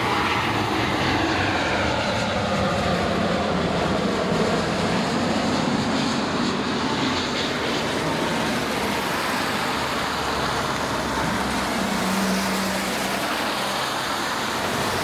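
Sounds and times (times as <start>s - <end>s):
engine roar: 0.0s - 15.0s.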